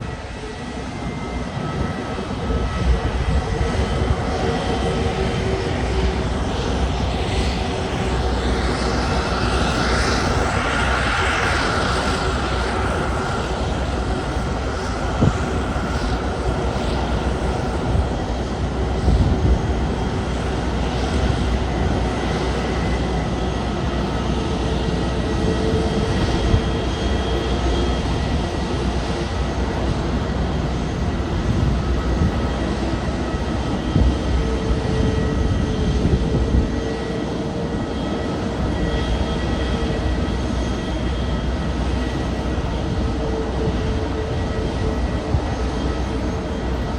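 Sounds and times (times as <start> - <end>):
aircraft engines rumbling: 0.0 - 46.9.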